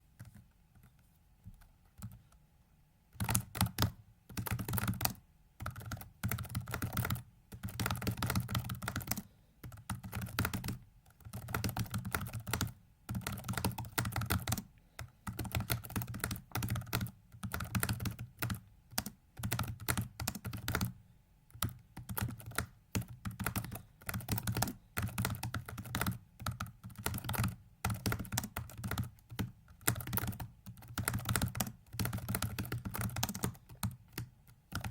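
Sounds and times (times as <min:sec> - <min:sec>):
rapid keyboard keystrokes: 0:00.2 - 0:02.2, 0:03.1 - 0:34.9.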